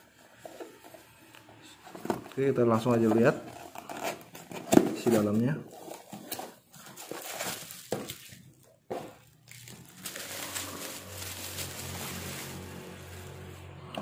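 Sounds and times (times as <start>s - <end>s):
cardboard and plastic rustling: 0.1s - 13.8s.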